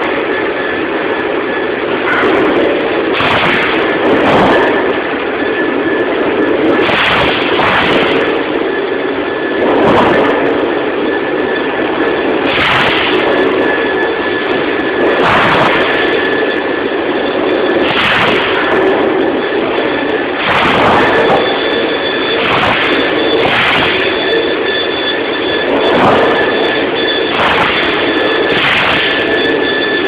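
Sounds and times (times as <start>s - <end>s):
band saw cutting steel: 0.0s - 30.0s.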